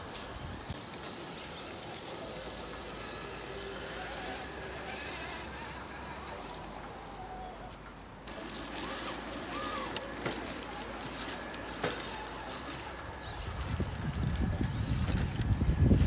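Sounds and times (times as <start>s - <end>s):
crunching leaves: 0.0s - 16.0s
electric motor whine: 0.0s - 16.0s.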